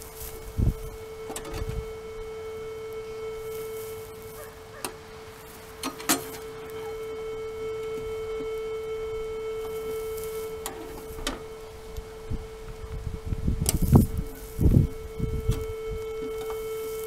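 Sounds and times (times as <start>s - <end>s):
metal detector steady tone: 0.0s - 17.0s.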